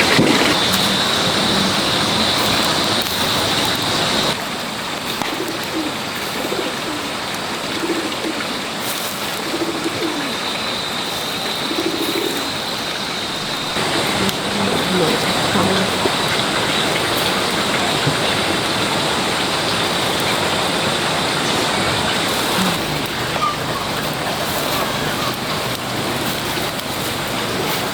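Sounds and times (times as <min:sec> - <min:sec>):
doves cooing: 0:00.0 - 0:04.4, 0:05.1 - 0:27.9
steady hiss: 0:00.0 - 0:27.9.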